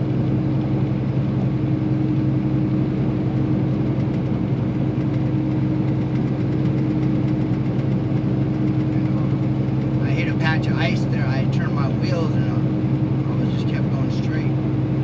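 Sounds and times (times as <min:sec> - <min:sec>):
road noise: 0:00.0 - 0:15.0
truck diesel engine droning: 0:00.0 - 0:15.0.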